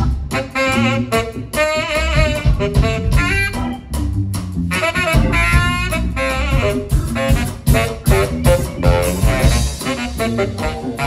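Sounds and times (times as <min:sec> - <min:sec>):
swing band playing: 0:00.0 - 0:11.0.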